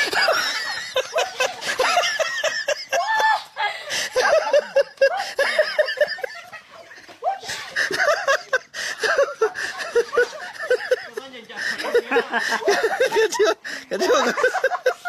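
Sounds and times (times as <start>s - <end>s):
people laughing: 0.0s - 15.0s.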